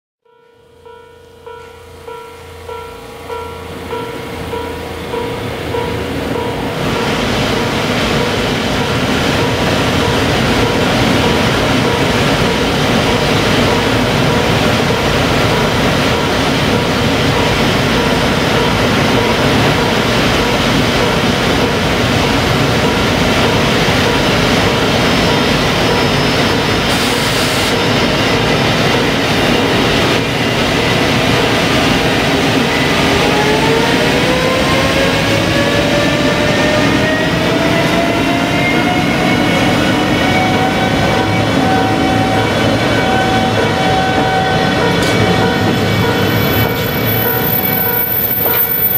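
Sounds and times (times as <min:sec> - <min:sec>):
train wheels rumbling: 0:01.3 - 0:48.9.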